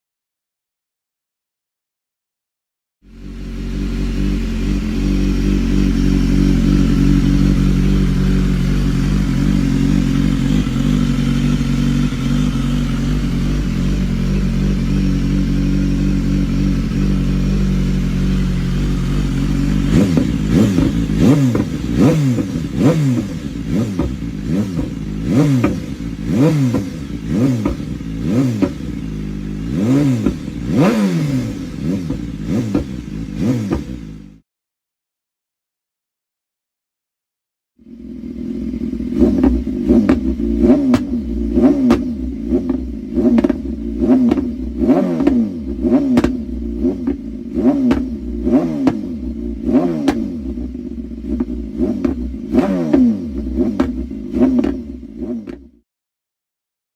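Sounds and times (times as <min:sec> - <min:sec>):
motorcycle engine revving: 0:03.0 - 0:34.4, 0:37.8 - 0:55.8
motorcycle engine idling: 0:03.1 - 0:34.4, 0:37.8 - 0:55.7.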